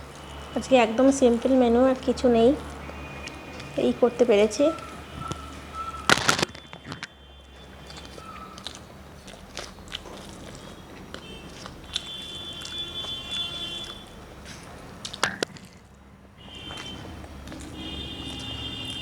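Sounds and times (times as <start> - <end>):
person chewing food: 0.0 - 0.6, 1.2 - 3.9, 4.5 - 19.0.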